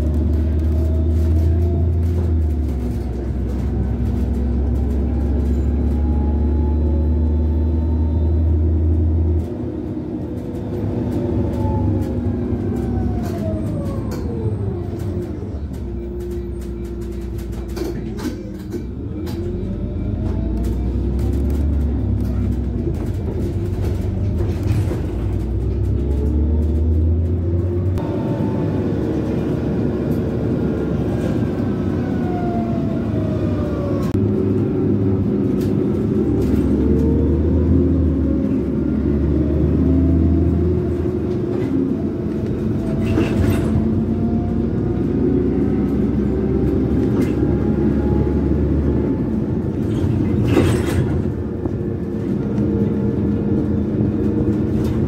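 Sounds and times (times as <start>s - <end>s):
bus engine drone and whine: 0.0s - 55.0s.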